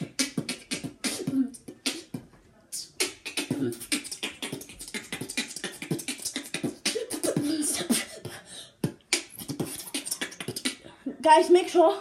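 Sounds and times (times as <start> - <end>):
boy beatboxing: 0.0 - 12.0
pitched vocal sounds: 0.0 - 12.0.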